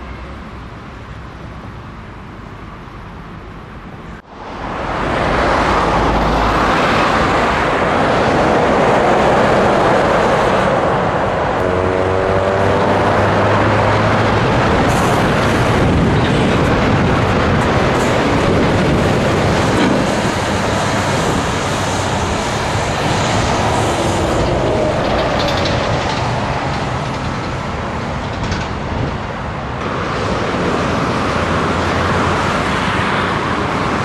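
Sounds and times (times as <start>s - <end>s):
road and wind noise: 0.0s - 34.0s.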